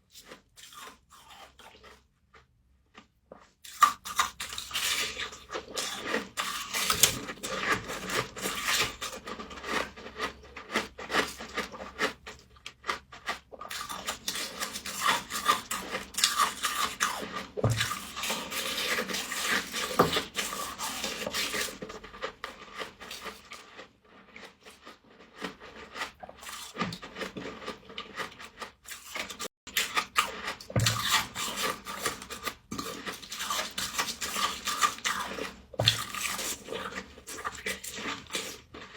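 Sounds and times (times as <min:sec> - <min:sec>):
frost crunched and chewed: 0:00.0 - 0:38.9.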